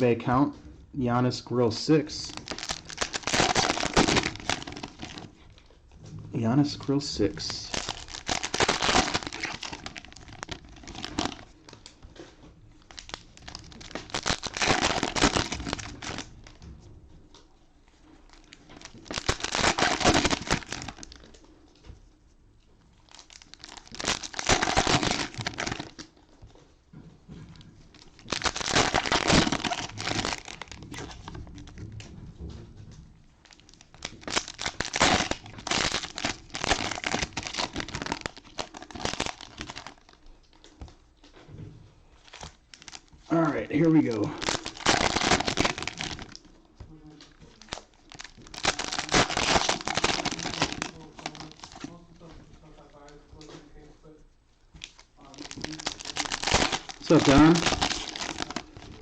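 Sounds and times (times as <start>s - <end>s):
cellophane wrappers crinkling: 1.2s - 16.8s, 17.4s - 21.9s, 22.8s - 32.2s, 33.4s - 59.0s.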